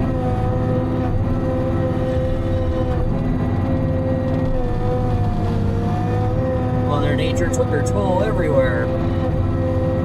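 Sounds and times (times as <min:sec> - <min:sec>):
machine engine drone with whine: 0:00.0 - 0:10.0.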